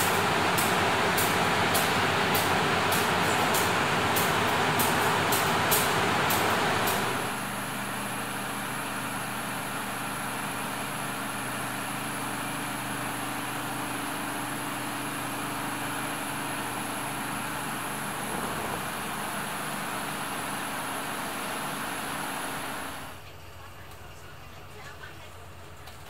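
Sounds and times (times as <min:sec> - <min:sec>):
diesel train engine humming: 0:00.0 - 0:26.0.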